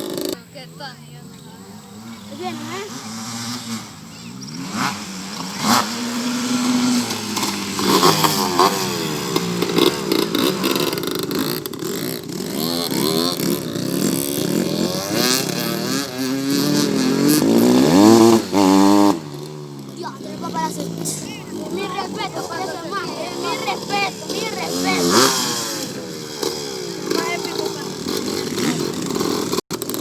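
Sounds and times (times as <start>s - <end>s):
motocross bikes revving and passing: 0.0s - 30.0s.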